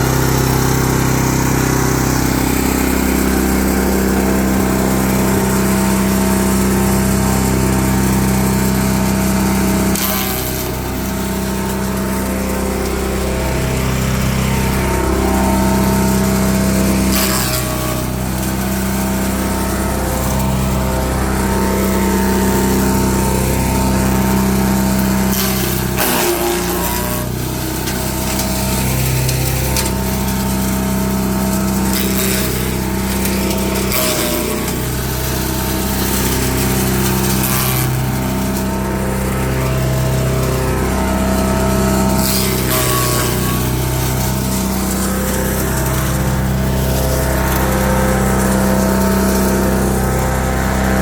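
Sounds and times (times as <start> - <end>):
short burst of chipping noise: 0.0 - 51.0
wood chipper running: 0.0 - 51.0.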